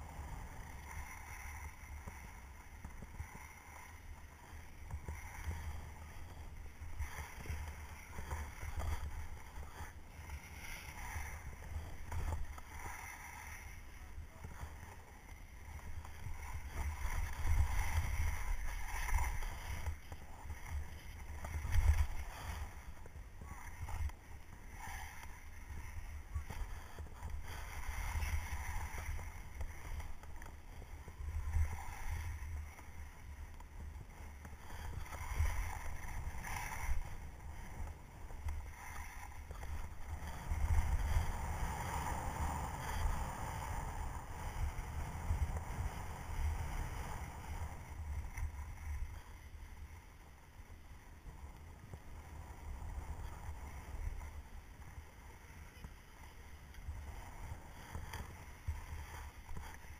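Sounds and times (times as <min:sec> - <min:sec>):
skis scraping over snow: 0:00.0 - 0:59.9.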